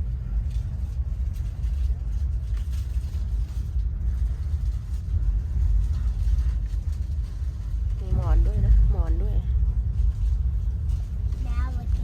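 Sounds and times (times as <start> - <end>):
vehicle interior rumble: 0.0 - 12.0.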